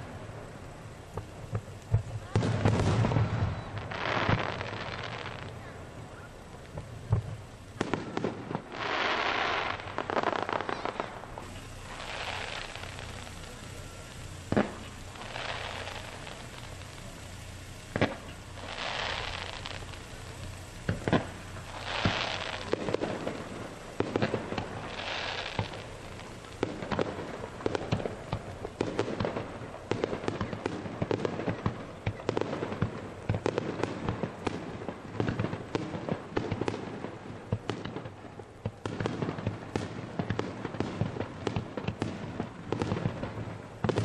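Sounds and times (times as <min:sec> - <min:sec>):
firework crackling: 0:00.0 - 0:44.0
firework shells bursting: 0:00.0 - 0:44.0.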